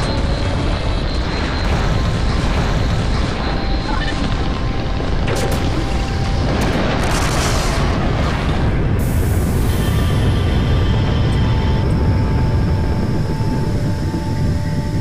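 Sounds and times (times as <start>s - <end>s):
spacecraft thruster rumble and hiss: 0.0s - 15.0s.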